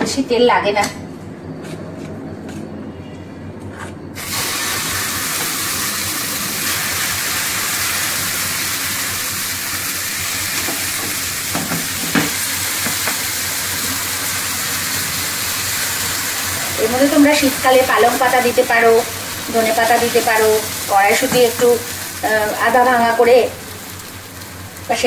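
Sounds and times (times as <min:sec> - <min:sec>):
batter sizzling in frying pan: 0:04.2 - 0:25.0.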